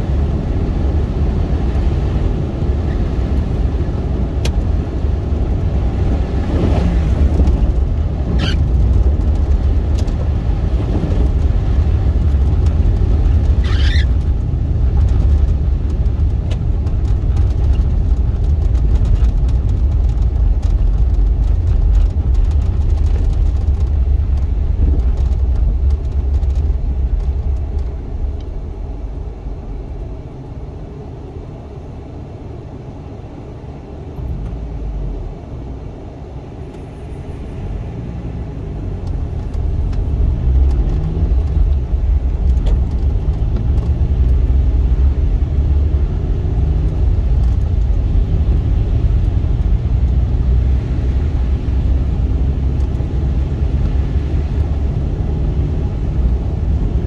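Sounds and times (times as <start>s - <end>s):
car engine in cabin: 0.0s - 57.0s
tyre rumble on slushy road: 0.1s - 28.4s, 38.8s - 57.0s.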